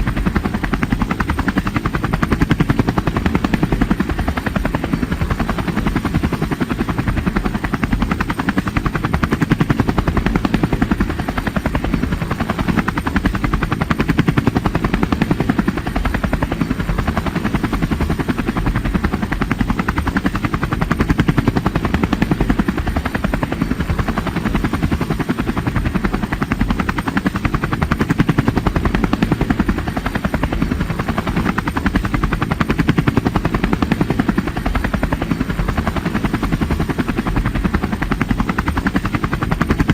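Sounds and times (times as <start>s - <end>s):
helicopter engine drone: 0.0s - 39.9s
helicopter rotor chop: 0.0s - 39.9s.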